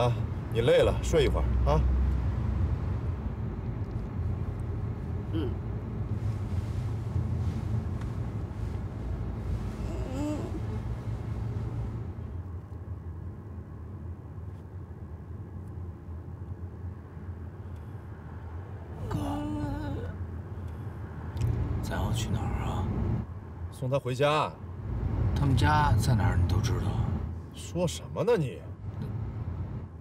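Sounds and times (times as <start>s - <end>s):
car road noise: 0.0s - 30.0s.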